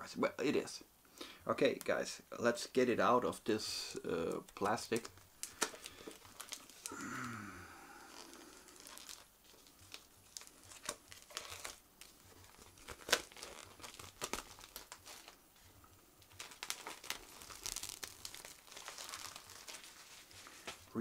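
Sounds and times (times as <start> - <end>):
cellophane wrap crinkling: 3.9 - 21.0.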